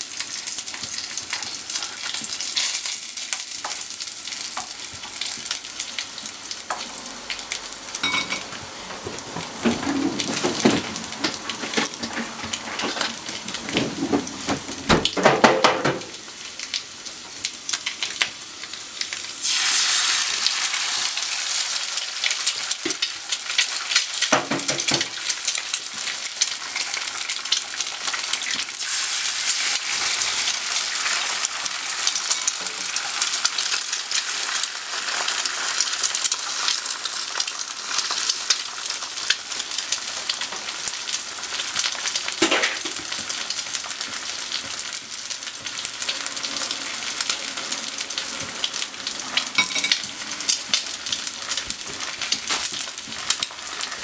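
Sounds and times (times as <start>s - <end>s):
eggs frying in hot oil: 0.0s - 54.0s
sausages sizzling in frying pan: 0.0s - 54.0s.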